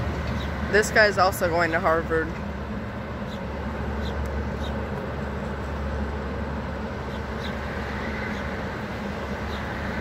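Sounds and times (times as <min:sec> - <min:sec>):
train coaches rumbling past: 0:00.0 - 0:10.0.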